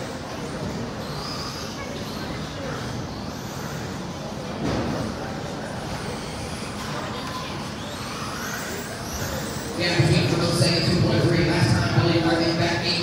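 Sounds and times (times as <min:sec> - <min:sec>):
electric rc trucks running: 0:00.0 - 0:13.0
steady background noise: 0:00.0 - 0:13.0.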